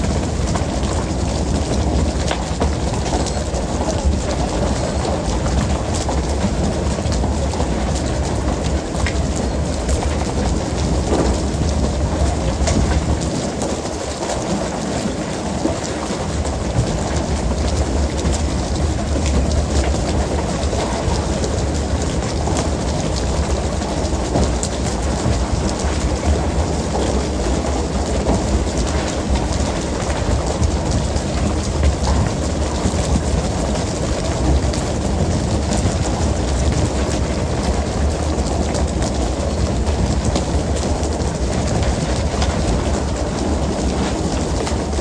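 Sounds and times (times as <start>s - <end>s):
boat engine rumbling: 0.0s - 45.0s
water splashing along hull: 0.0s - 45.0s.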